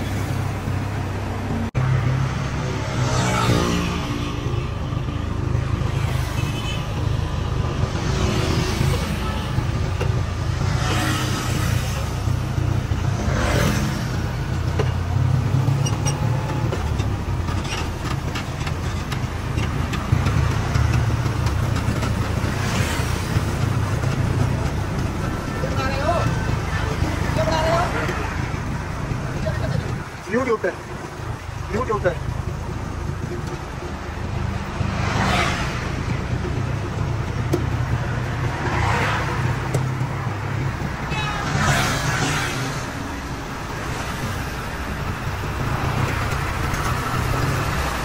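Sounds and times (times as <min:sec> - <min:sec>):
vehicles passing by: 0:00.0 - 0:48.0.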